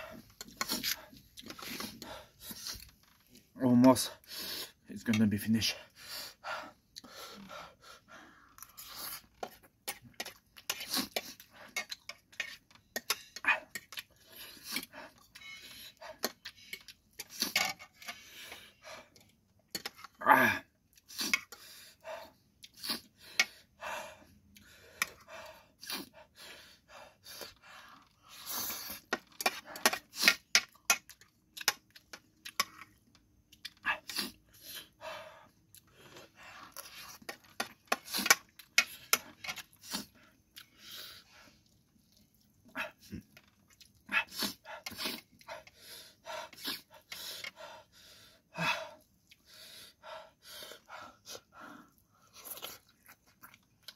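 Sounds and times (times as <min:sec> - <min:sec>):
chewing noodles: 0:00.0 - 0:03.6, 0:06.5 - 0:53.9.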